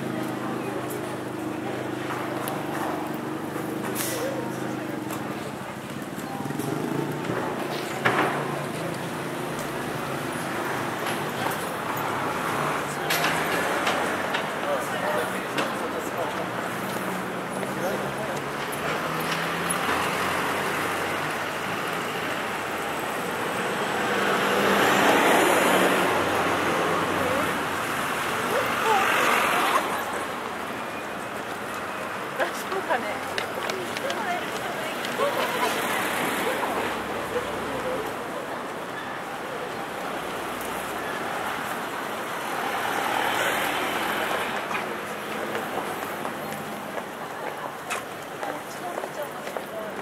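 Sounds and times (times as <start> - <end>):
passing vehicles: 0.0 - 50.0
road traffic: 0.0 - 50.0.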